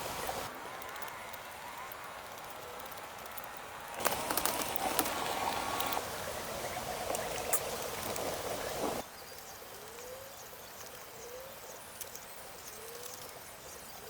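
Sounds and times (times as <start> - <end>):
steady outdoor noise: 0.0 - 14.0.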